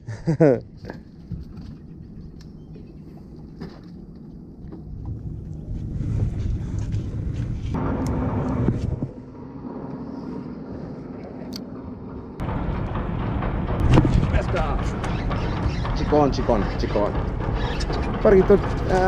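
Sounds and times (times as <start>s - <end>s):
boat engine droning: 0.9s - 19.0s.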